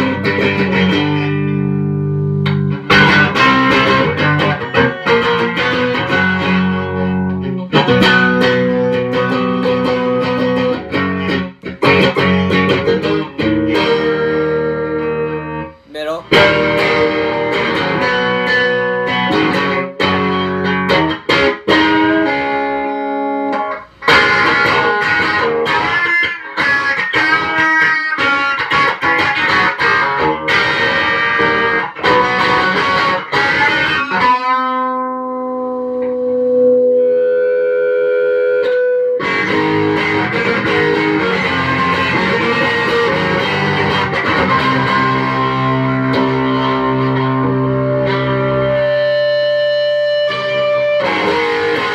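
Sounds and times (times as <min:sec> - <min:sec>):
electric guitar notes and chords: 0:00.0 - 0:51.9.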